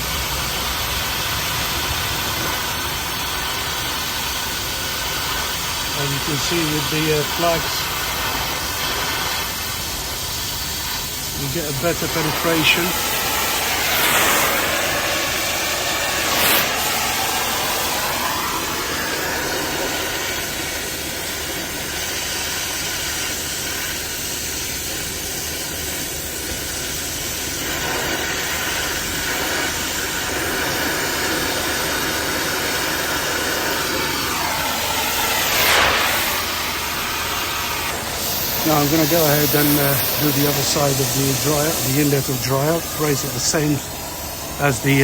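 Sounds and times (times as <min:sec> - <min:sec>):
torch flame hissing: 0:00.0 - 0:45.0.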